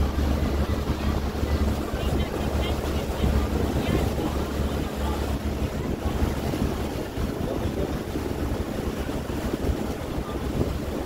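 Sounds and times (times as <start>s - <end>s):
boat engine humming: 0.0s - 11.0s
water along hull: 0.0s - 11.0s
wind buffeting microphone: 0.0s - 11.0s.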